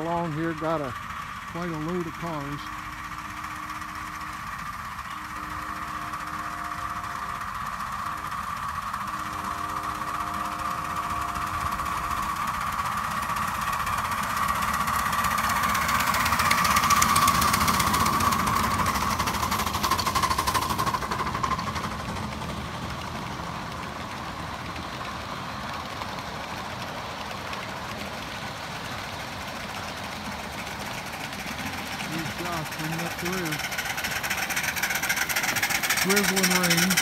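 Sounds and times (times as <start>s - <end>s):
steady high whine: 0.0s - 37.0s
train wheels clattering on rails: 0.0s - 37.0s.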